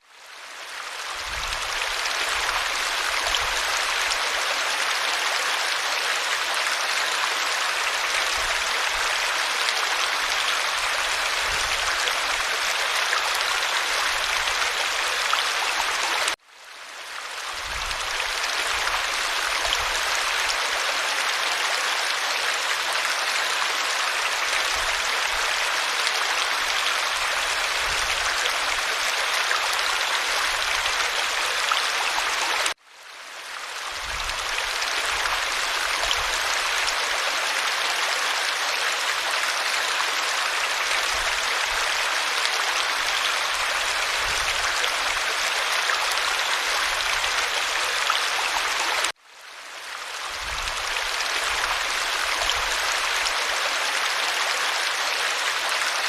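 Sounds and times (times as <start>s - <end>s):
stream rushing and babbling: 0.0s - 56.0s.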